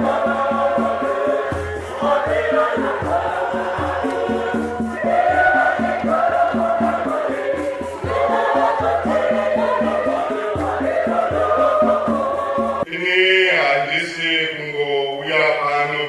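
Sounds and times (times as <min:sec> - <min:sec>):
steady low beat: 0:00.0 - 0:12.9
choir singing a hymn: 0:00.0 - 0:14.3.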